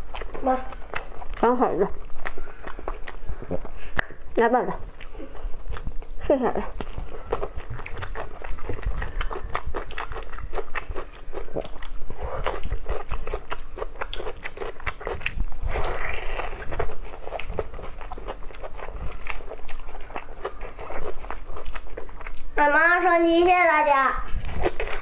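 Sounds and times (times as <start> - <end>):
biting and chewing meat: 0.0 - 4.2, 4.8 - 22.6, 24.3 - 25.0.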